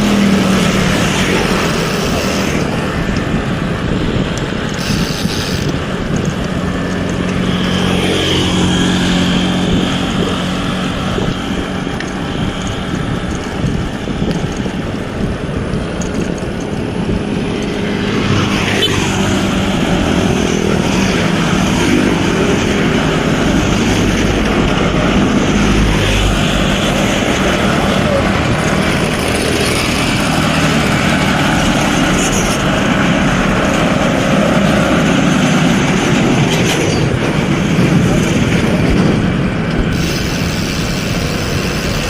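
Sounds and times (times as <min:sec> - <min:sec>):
vehicle engines running: 0:00.0 - 0:42.0.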